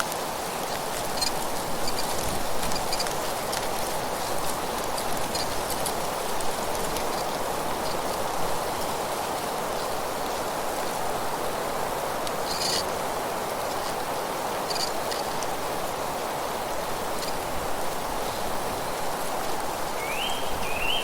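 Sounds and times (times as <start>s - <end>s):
wind rushing through trees: 0.0s - 21.0s.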